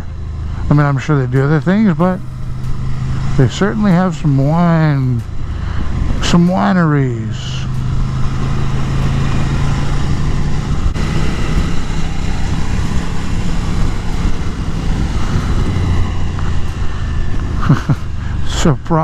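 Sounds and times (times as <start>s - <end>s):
motorcycle engine cruising: 0.0s - 19.0s
wind rumble on microphone: 1.5s - 18.9s.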